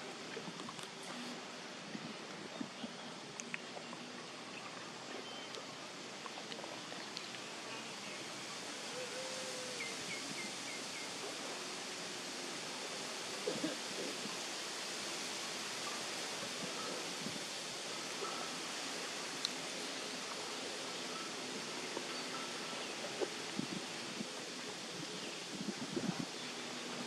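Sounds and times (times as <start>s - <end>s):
outdoor ambience hiss: 0.0s - 27.0s.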